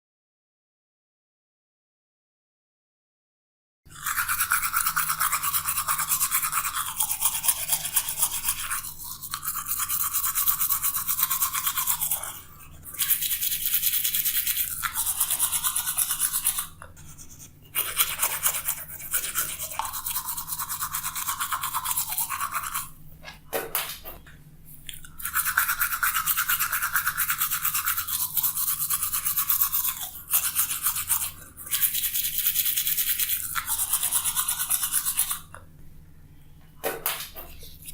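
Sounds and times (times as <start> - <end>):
toothbrush scrubbing teeth: 3.9 - 23.4, 24.7 - 35.7, 37.2 - 37.9.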